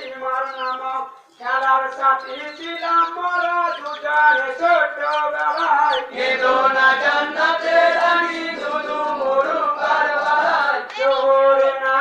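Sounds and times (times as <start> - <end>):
men chanting in unison: 1.5 - 12.0.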